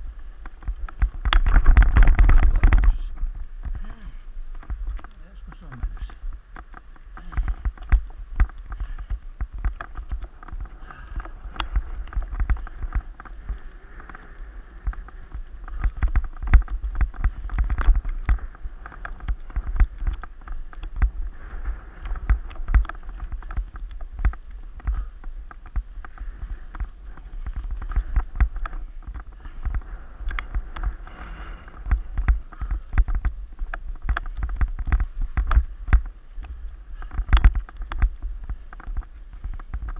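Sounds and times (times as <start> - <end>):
bike frame rattling: 0.0 - 39.9
low microphone rumble: 0.0 - 39.9.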